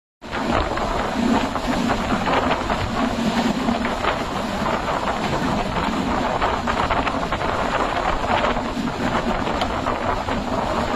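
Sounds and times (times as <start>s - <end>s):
train rumbling: 0.2s - 10.9s.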